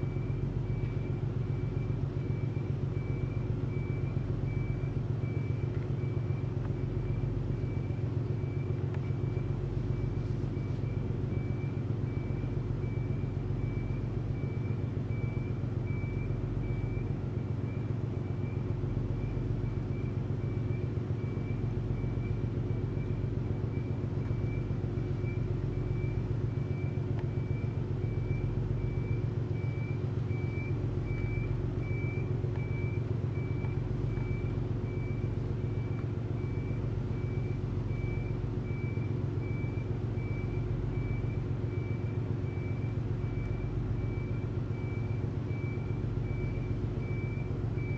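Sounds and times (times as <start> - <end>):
low diesel engine drone: 0.0 - 47.9.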